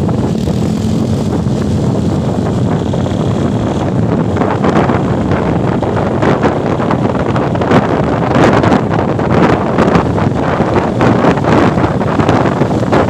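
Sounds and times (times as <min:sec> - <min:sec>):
motorcycle noise: 0:00.0 - 0:13.0
wind buffeting microphone: 0:00.0 - 0:13.0.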